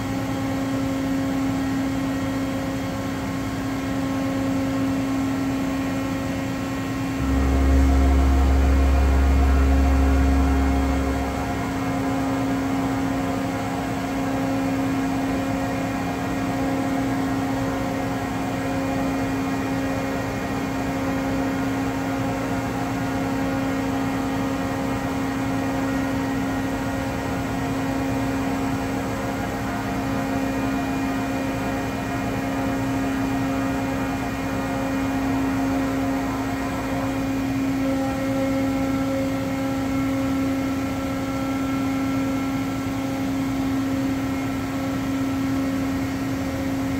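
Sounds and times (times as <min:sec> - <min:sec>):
milling machine hum: 0:00.0 - 0:46.9
higher machine tone: 0:05.2 - 0:46.9.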